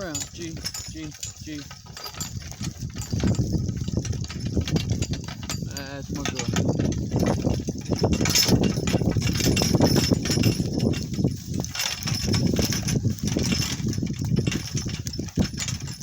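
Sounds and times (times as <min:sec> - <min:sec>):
cart rattling over rough ground: 0:00.0 - 0:16.0.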